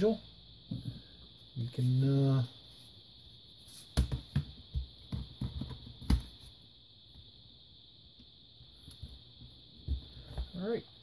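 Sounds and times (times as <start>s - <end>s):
faint high hiss: 0.0s - 11.0s.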